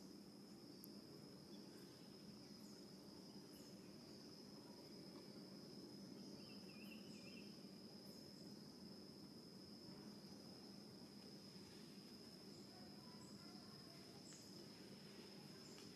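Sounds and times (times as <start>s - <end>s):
crickets droning: 0.0s - 15.9s.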